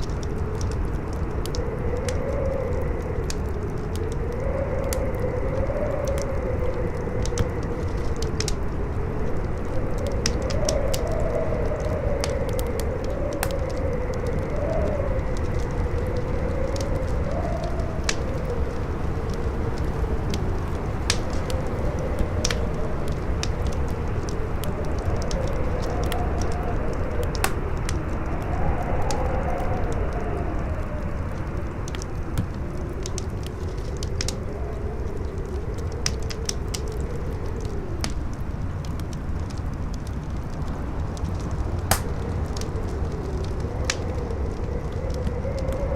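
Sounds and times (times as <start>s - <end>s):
rumbling gust noise: 0.0s - 35.8s, 40.8s - 45.9s
wind howling: 0.0s - 45.9s
wood fire crackling and popping: 0.0s - 45.9s.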